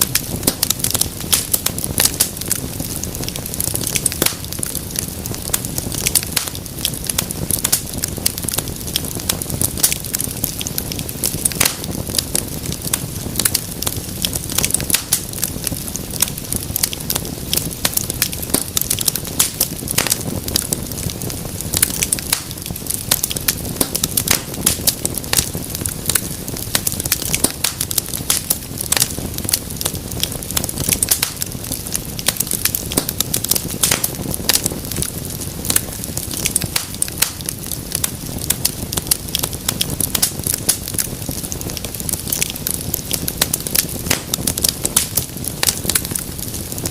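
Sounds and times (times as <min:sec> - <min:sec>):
fire popping and snapping: 0:00.0 - 0:46.9
low rumble of flame: 0:00.0 - 0:46.9.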